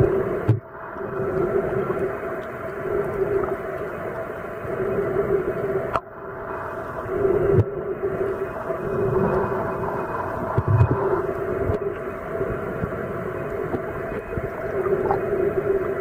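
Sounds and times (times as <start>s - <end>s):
low hum: 0.0s - 16.0s
muffled underwater rush: 0.0s - 16.0s.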